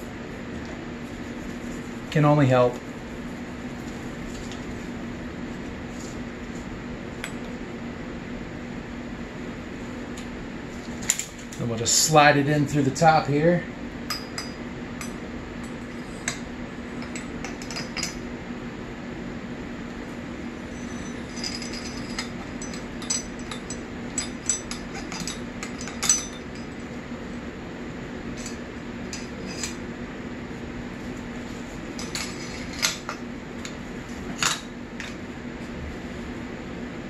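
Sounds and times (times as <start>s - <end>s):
fan humming: 0.0s - 37.0s.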